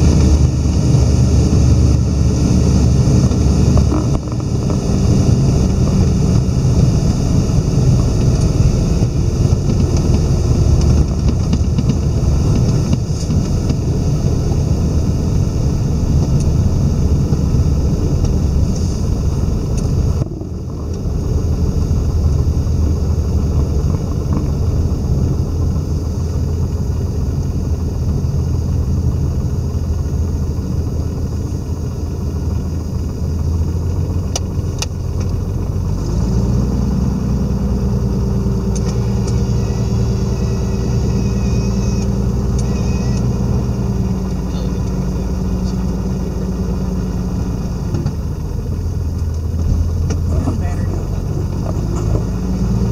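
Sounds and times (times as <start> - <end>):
propeller aircraft engine: 0.0 - 52.9
runway rumble: 0.0 - 52.9.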